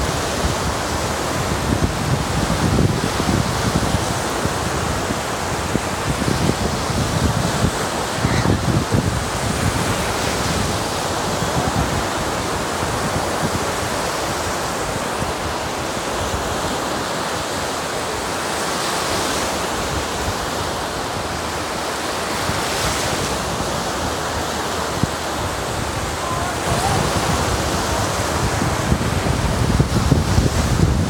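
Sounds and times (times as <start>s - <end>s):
wind buffeting microphone: 0.0s - 18.4s, 19.0s - 31.0s
waves washing up a beach: 0.0s - 31.0s.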